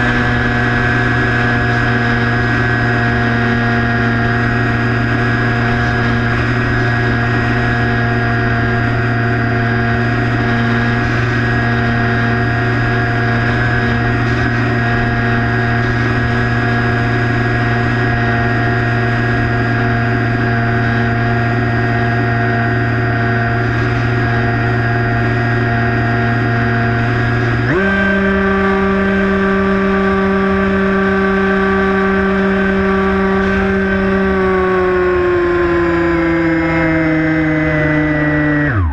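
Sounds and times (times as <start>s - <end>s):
model plane motor and propeller: 0.0s - 38.9s.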